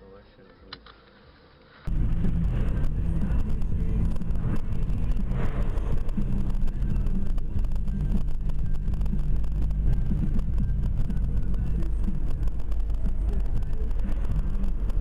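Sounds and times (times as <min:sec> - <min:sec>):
road noise: 0:00.9 - 0:15.0
car engine droning: 0:01.9 - 0:15.0.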